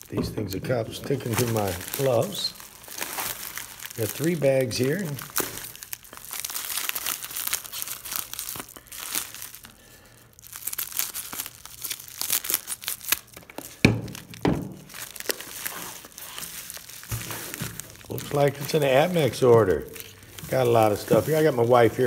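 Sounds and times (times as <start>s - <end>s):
plastic mailers crinkling: 0.0s - 22.0s.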